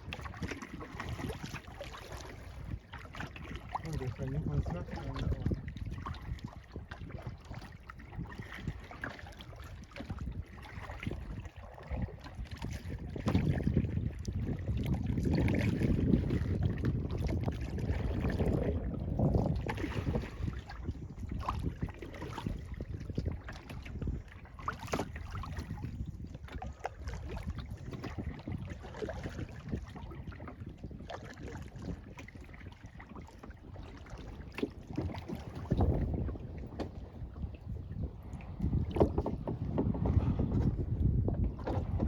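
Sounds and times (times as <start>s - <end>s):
paddle splashing water: 0.0s - 42.0s
wind rumbling on microphone: 0.0s - 42.0s.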